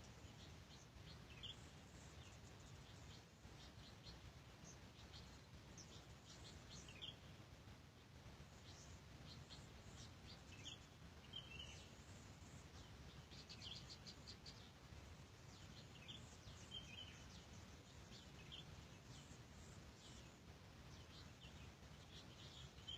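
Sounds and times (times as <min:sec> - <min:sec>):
low steady rumble: 0:00.0 - 0:22.9
small birds chirping: 0:00.0 - 0:22.9.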